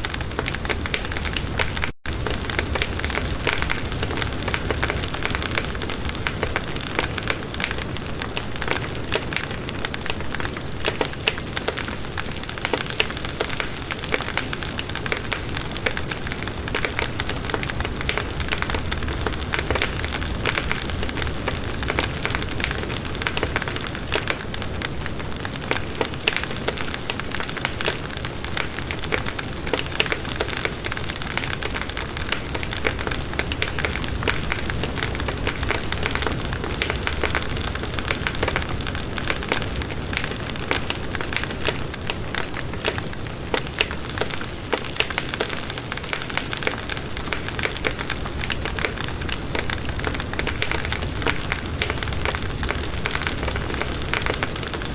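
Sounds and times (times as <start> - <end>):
bonfire crackling: 0.0 - 54.9.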